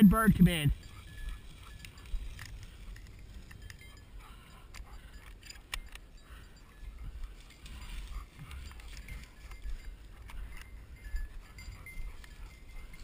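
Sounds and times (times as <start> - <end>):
dry grass rustling and crackling: 0.8 - 13.0.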